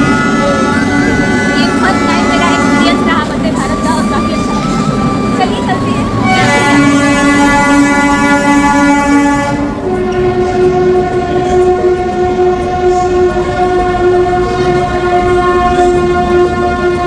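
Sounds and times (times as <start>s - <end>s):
train horn long blasts: 0.0s - 17.0s.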